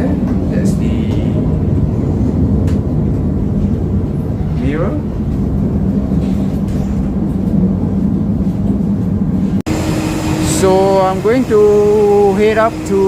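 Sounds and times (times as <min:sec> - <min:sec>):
train carriage rumble with low hum: 0:00.0 - 0:13.0.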